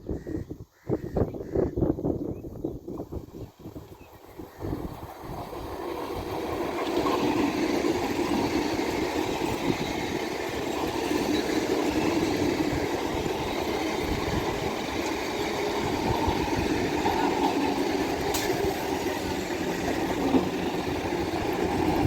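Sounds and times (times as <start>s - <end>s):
train wheels on rails: 2.9s - 22.0s.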